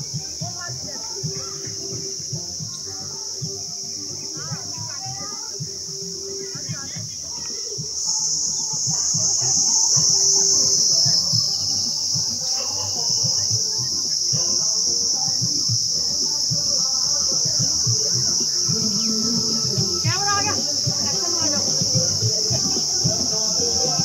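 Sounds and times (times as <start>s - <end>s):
indistinct voices: 0.0s - 24.0s
insects droning: 0.0s - 24.0s.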